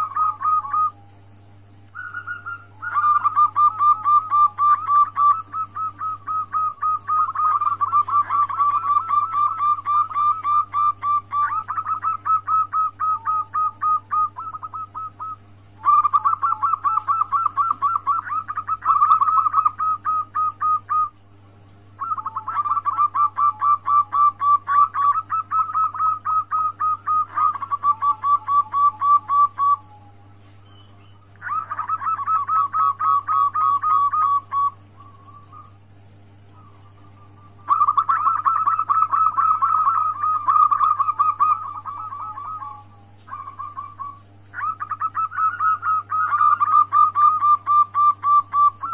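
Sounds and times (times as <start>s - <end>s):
dove cooing: 0.0s - 30.5s, 31.2s - 48.9s.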